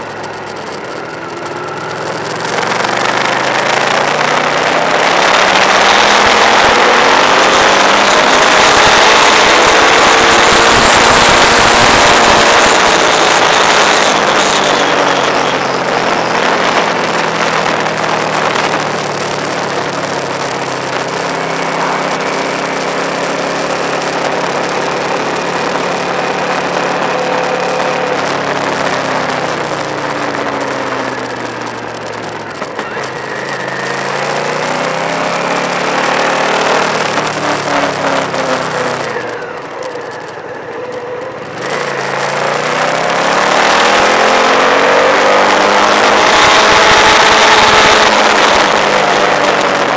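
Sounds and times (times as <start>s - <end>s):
motorcycle engine: 0.0s - 49.9s
wind rush on microphone: 2.5s - 49.9s.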